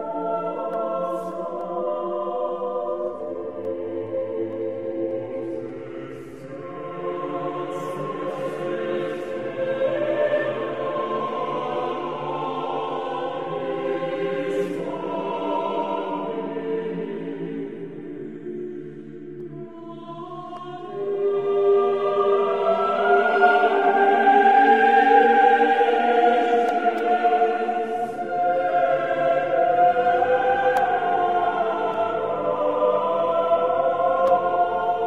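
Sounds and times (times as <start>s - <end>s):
choir singing sacred music: 0.0s - 35.0s.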